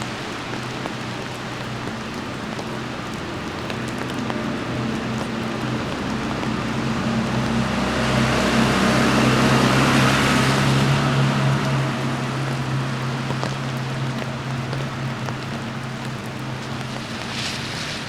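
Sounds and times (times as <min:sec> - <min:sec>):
low engine hum: 0:00.0 - 0:18.0
tyre hiss on wet street: 0:00.0 - 0:18.0.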